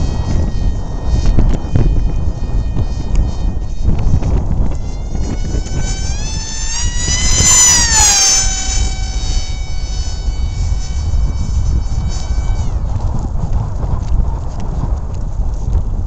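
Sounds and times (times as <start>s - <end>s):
model aircraft motor whine: 0.0s - 15.9s
wind on microphone: 0.0s - 16.0s.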